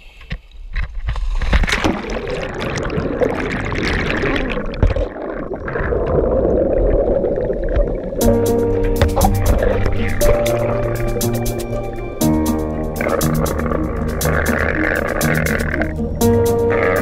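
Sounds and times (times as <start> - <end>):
bubbling water underwater: 1.2 - 12.1, 13.0 - 17.0.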